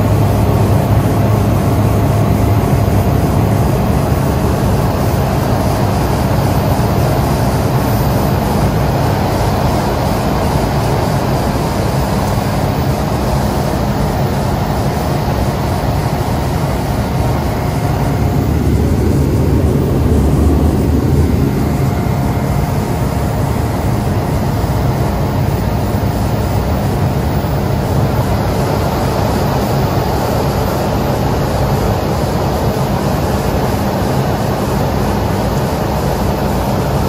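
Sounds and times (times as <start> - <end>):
turboprop engine and propeller: 0.0 - 37.0.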